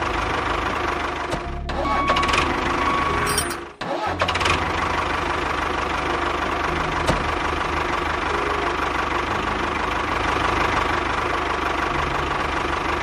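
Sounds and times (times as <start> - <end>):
engine knocking steadily: 0.0 - 3.3, 4.2 - 13.0.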